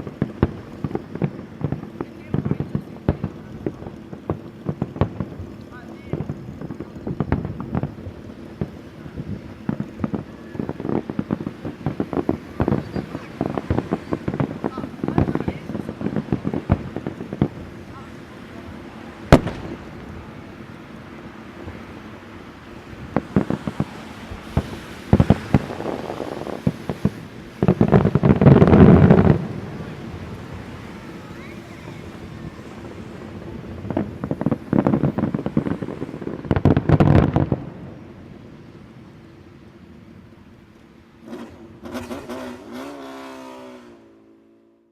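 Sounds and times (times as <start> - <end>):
wind buffeting microphone: 0.0 - 40.7
fireworks bursts and bangs: 0.0 - 44.1.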